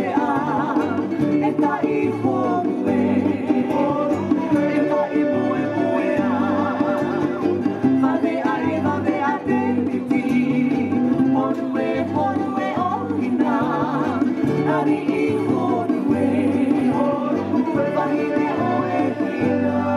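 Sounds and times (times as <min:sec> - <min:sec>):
plucked strings: 0:00.0 - 0:19.9.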